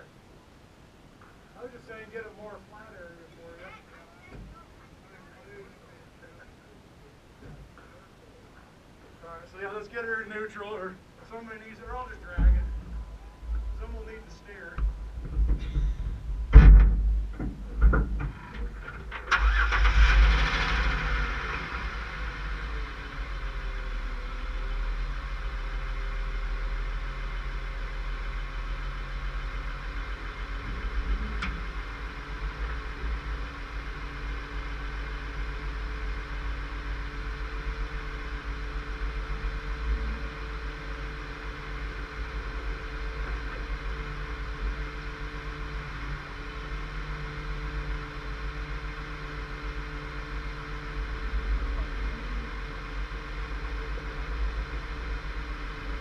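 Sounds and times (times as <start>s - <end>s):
vehicle engine idling: 1.2s - 56.0s.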